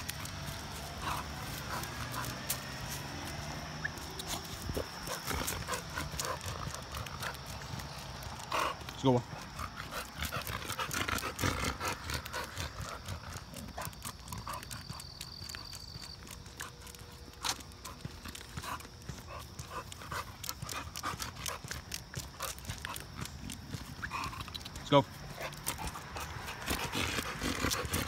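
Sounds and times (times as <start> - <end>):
footsteps on concrete: 0.0 - 28.0.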